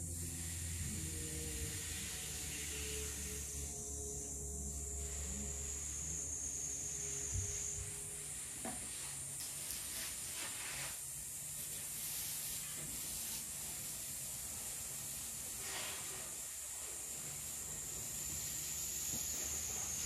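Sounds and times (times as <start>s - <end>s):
water hissing from garden hose: 0.0s - 20.0s.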